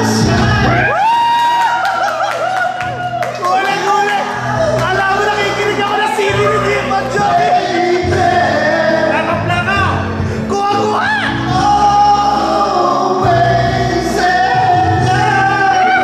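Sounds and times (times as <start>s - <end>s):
man singing into a microphone: 0.0s - 1.0s, 3.6s - 16.0s
backing music over loudspeakers: 0.0s - 16.0s.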